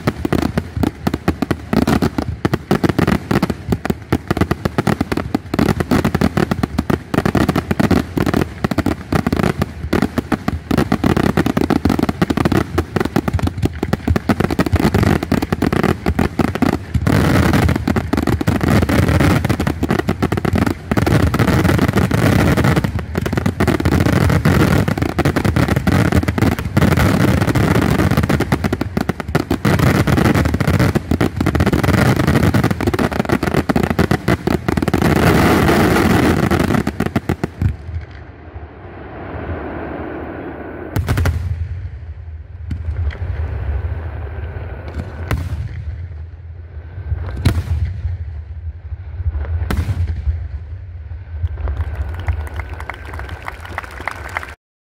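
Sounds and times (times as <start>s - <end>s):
fireworks booms: 0.0s - 53.3s
fireworks bursting: 0.0s - 54.6s.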